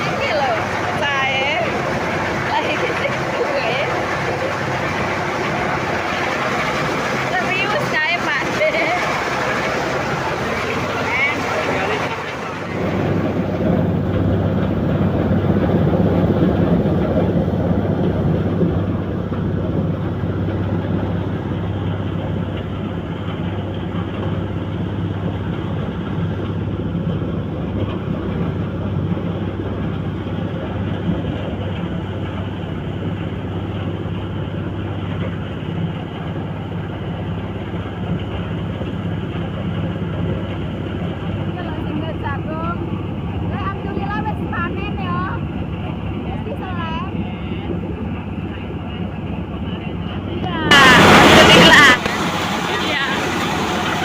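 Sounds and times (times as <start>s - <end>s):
threshing drum rattling: 0.0s - 46.5s
engine hum: 0.0s - 54.0s.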